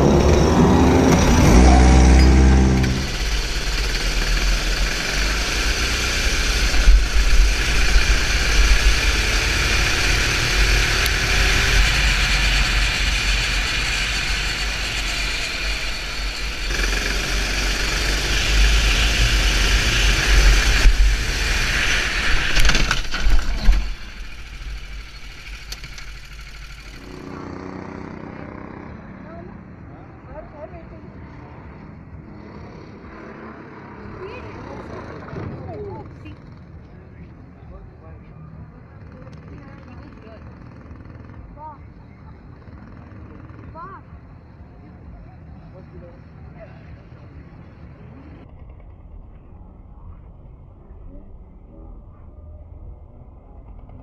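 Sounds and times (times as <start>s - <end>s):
go-kart engine running: 0.0s - 50.8s.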